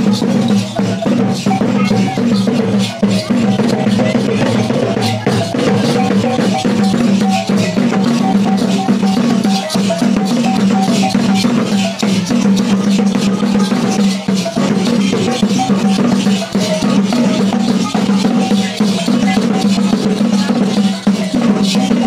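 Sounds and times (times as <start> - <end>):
drums and percussion beats: 0.0 - 22.0.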